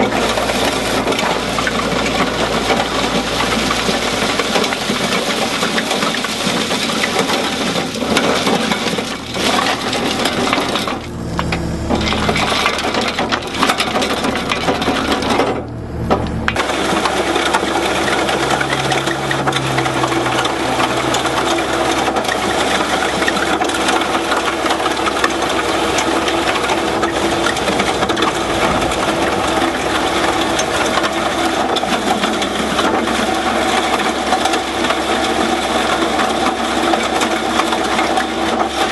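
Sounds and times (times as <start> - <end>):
stones rattling in screening bucket: 0.0 - 11.2, 11.9 - 38.9
excavator engine: 0.0 - 38.9.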